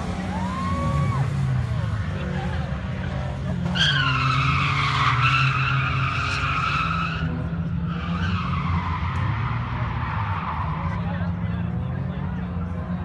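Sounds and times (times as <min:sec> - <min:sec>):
truck engine: 0:00.0 - 0:13.0.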